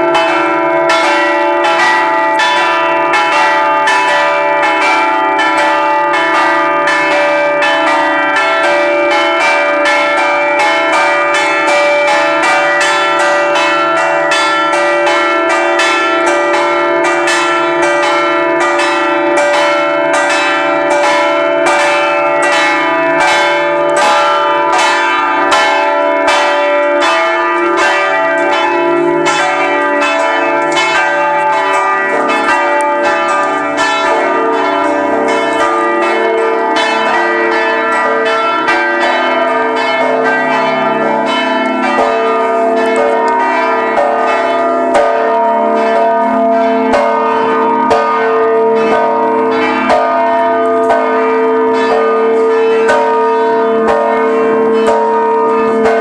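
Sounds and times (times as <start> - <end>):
church bells ringing a peal: 0.0 - 56.0.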